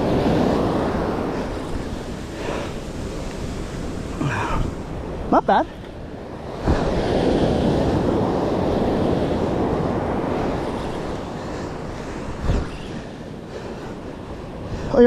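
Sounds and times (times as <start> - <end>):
ocean surf breaking on shore: 0.0 - 15.0
wind on microphone: 0.0 - 15.0.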